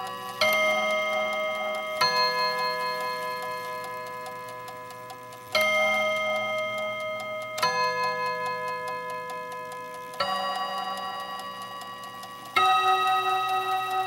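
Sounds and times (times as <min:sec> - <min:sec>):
clock chime rods ringing: 0:00.0 - 0:14.0
clock ticking: 0:00.0 - 0:14.0.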